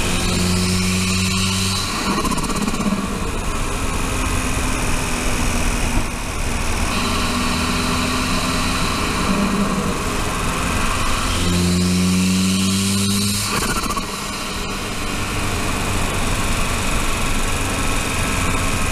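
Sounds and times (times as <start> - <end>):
turbocharged car engine running: 0.0 - 18.9.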